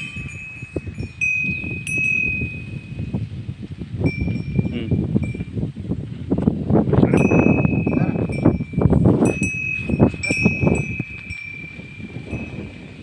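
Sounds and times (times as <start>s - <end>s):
bull's neck bell ringing: 0.0s - 3.1s, 4.0s - 5.6s, 7.0s - 13.0s.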